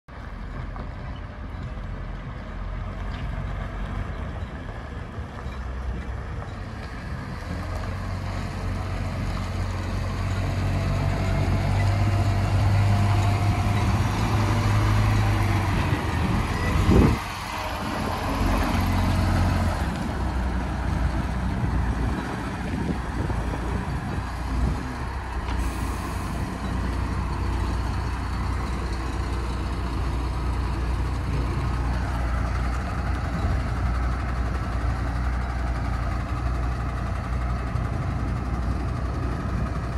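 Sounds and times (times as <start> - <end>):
crane diesel engine running: 0.1 - 39.9.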